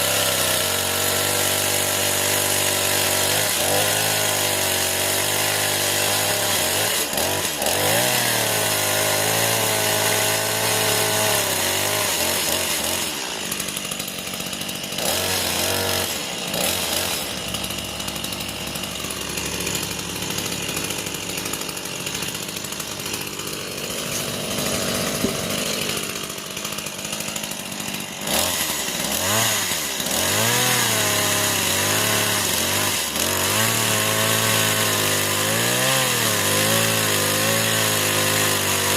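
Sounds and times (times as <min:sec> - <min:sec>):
chainsaw cutting wood: 0:00.0 - 0:38.9
chainsaw revving: 0:00.0 - 0:38.9.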